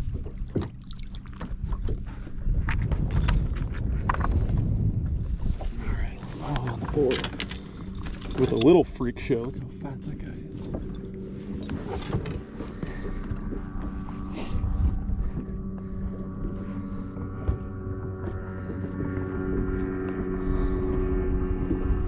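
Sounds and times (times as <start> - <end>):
boat motor humming: 0.0 - 22.0
wind noise: 1.3 - 8.8, 9.5 - 22.0.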